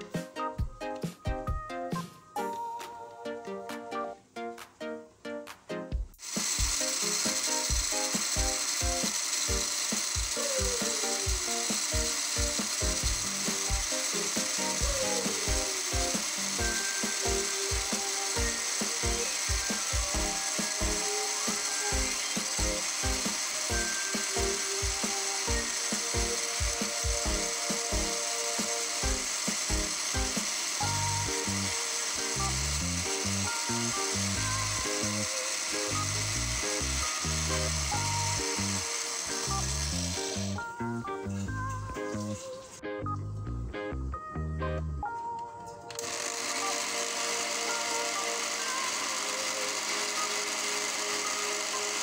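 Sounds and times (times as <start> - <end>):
electric blender grinding: 6.2 - 42.4, 45.9 - 52.0.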